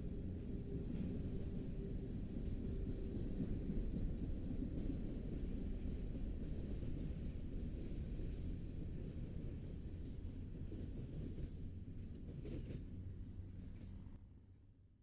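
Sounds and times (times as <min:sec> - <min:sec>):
train rumbling along tracks: 0:00.0 - 0:14.2.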